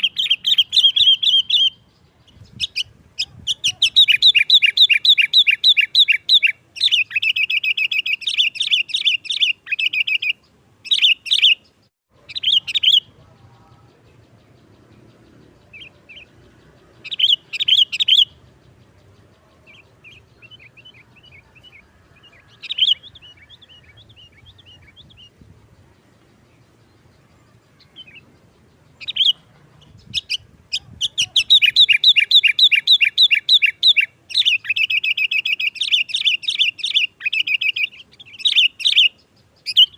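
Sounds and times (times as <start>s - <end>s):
bulbul singing high chirps: 0.0s - 39.9s.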